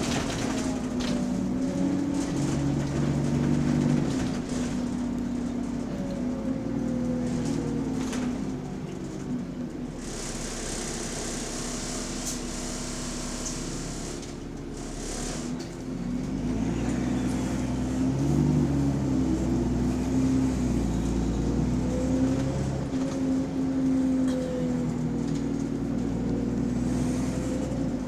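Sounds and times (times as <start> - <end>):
diesel bus engine pulling: 0.0 - 28.0.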